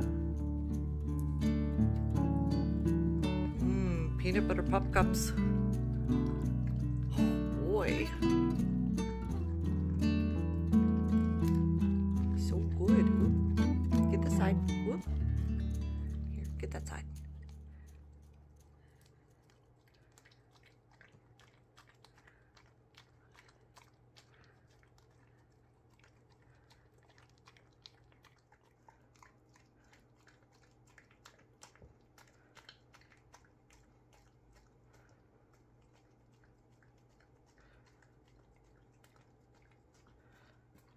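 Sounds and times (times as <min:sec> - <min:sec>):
dog licking and smacking: 0:00.0 - 0:03.6, 0:04.2 - 0:40.9
low steady hum: 0:00.0 - 0:40.9.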